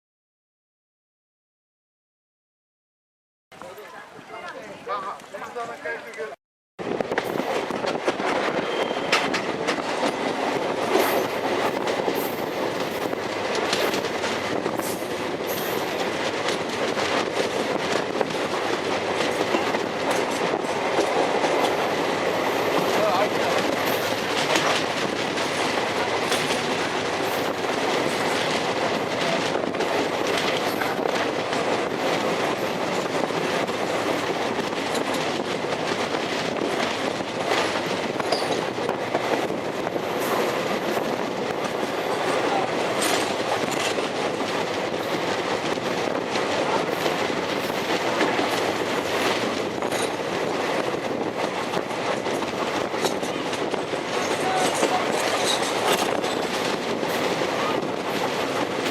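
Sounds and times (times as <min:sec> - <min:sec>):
train rumbling on rails: 0:05.5 - 0:58.9
wheels clicking over rail joints: 0:07.0 - 0:58.9.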